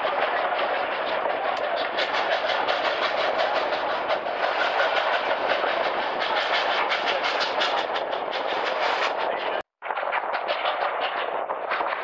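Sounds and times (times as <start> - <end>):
steam train wheel and rail noise: 0.0 - 12.0.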